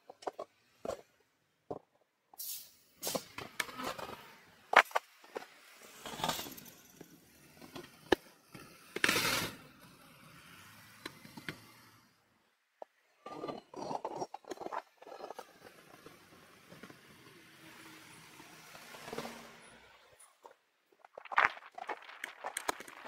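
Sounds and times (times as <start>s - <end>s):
bicycle tyres rolling and rattling: 0.0s - 1.9s, 3.0s - 23.0s.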